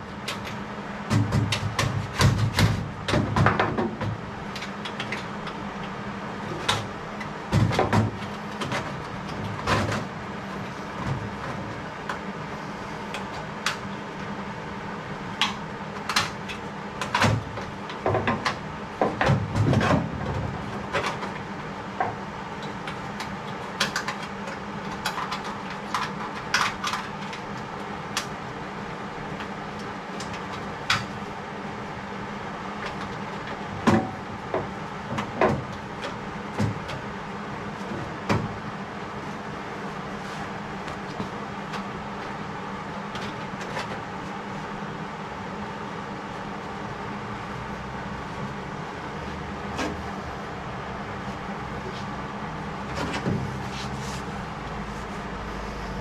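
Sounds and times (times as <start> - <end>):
steady shop hum: 0.0 - 56.0.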